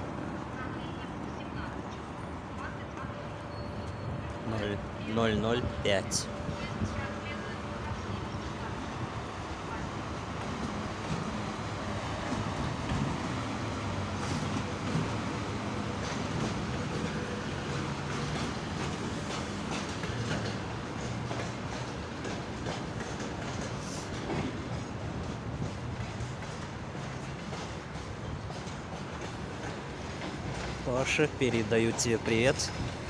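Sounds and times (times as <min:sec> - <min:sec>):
train rail rumble: 0:00.0 - 0:33.0
wheels clacking over rail joints: 0:00.0 - 0:33.0.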